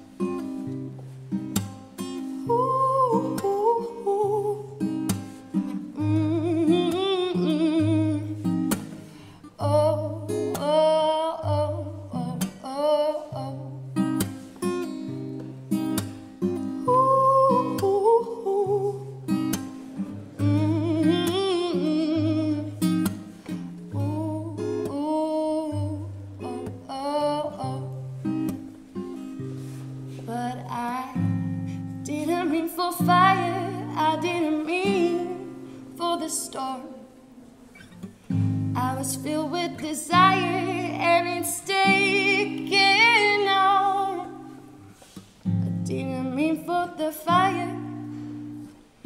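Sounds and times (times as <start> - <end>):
acoustic guitar strumming: 0.0 - 49.0
woman singing: 2.1 - 28.7, 29.6 - 48.8.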